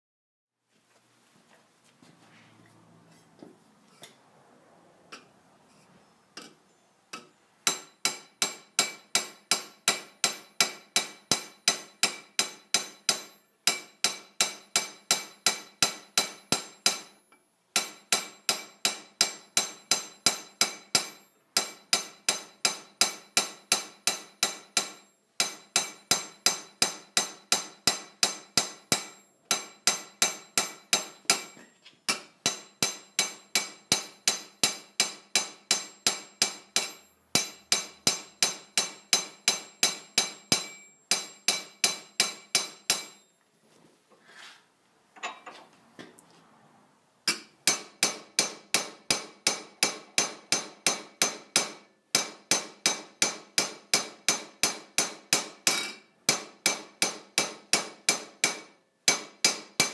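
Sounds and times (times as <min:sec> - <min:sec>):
hammer striking copper: 0:06.4 - 0:43.3, 0:47.2 - 0:59.9.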